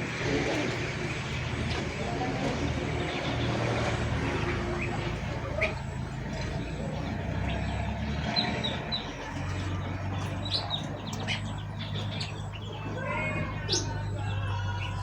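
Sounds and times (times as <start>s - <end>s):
songbirds chirping: 0.0s - 15.0s
steady low hum: 0.0s - 15.0s.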